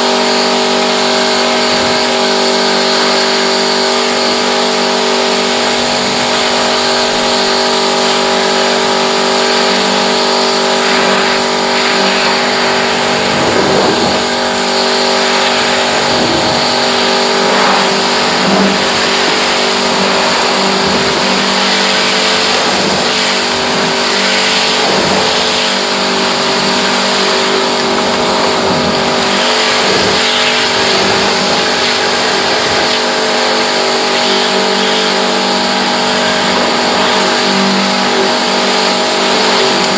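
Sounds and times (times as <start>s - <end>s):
pressure washer motor: 0.0s - 39.9s
water spray hissing: 0.0s - 39.9s.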